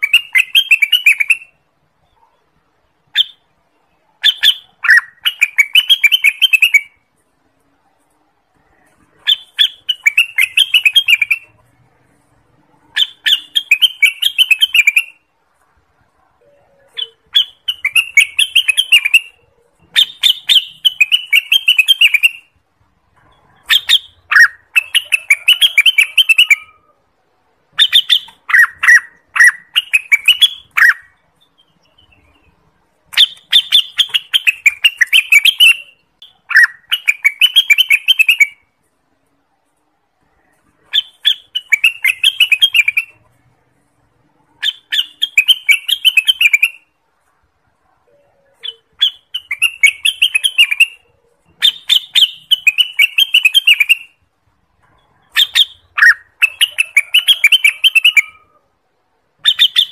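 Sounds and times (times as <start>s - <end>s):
bird warbling song: 0.0s - 7.0s, 8.7s - 11.8s, 12.7s - 15.2s, 16.4s - 22.6s, 23.2s - 26.9s, 27.7s - 38.6s, 40.8s - 43.4s, 44.5s - 47.0s, 48.1s - 54.2s, 54.8s - 58.6s, 59.4s - 59.9s.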